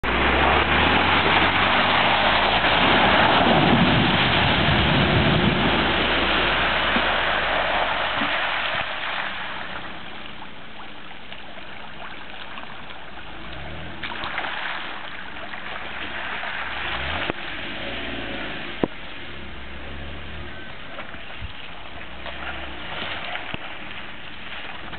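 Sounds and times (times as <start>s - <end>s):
tyres splashing through water: 0.0s - 24.9s.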